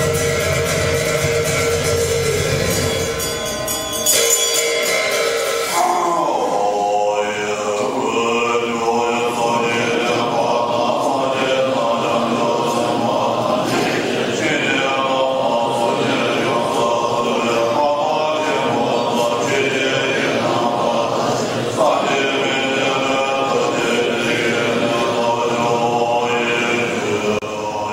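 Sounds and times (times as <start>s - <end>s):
melodic prayer chanting: 0.0s - 27.9s.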